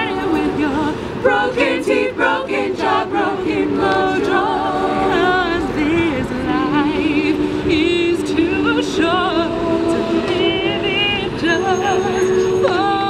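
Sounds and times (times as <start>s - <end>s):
women's a cappella group singing: 0.0s - 13.0s.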